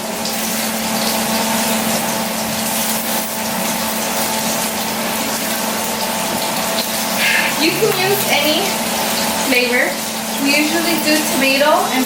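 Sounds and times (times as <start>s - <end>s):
food sizzling in oil: 0.0s - 12.0s
stovetop hum: 0.0s - 12.0s.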